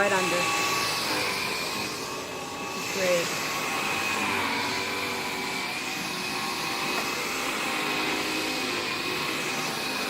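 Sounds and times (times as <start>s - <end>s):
stick vacuum cleaner running: 0.0s - 10.0s.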